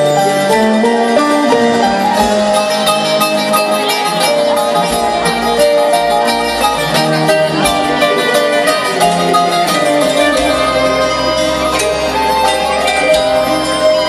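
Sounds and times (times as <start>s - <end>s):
live band playing: 0.0s - 14.0s
plucked strings: 0.0s - 14.0s.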